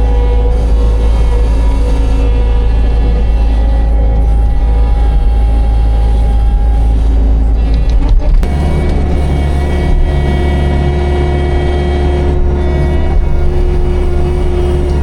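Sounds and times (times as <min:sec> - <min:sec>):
skid loader engine running: 0:00.0 - 0:15.0.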